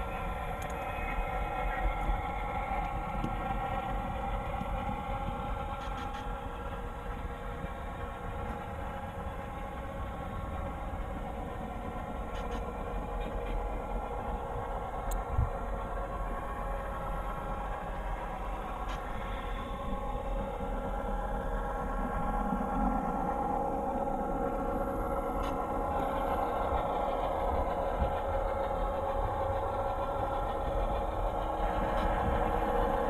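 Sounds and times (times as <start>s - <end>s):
diesel locomotive engine sound: 0.0s - 33.0s.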